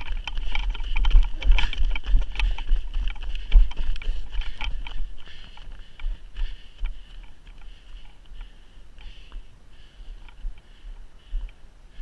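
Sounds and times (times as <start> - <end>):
running footsteps on snow: 0.0 - 12.0.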